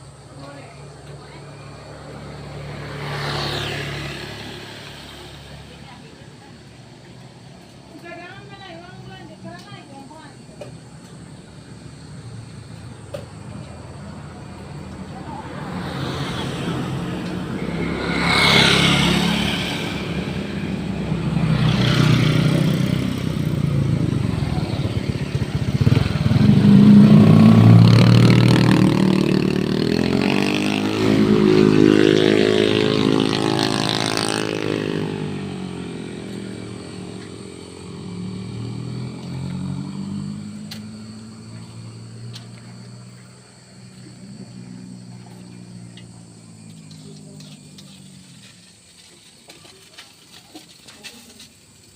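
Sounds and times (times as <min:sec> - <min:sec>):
motorcycles driving past: 0:00.0 - 0:50.0.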